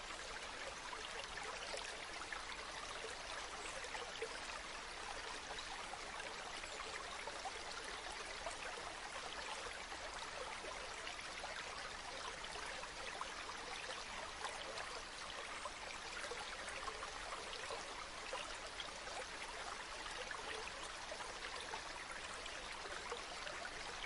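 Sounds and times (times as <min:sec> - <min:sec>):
stream babbling over stones: 0:00.0 - 0:24.0.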